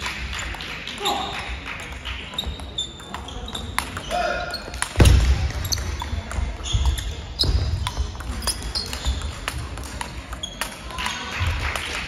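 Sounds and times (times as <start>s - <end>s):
footfalls in sports hall: 2.2s - 12.0s.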